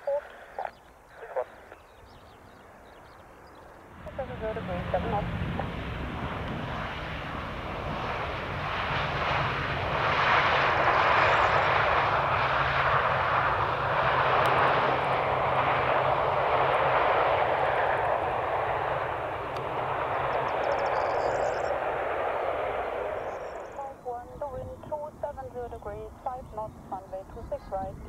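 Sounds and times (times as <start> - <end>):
low hum: 0.0 - 28.0
jet engines rushing: 2.4 - 28.0.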